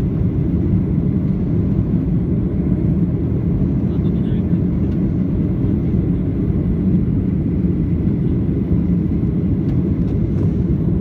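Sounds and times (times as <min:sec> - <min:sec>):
jet airliner cabin roar: 0:00.0 - 0:11.0.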